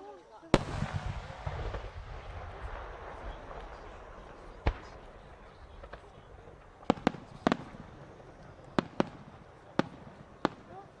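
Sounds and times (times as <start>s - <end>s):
fireworks bangs: 0.5s - 11.0s.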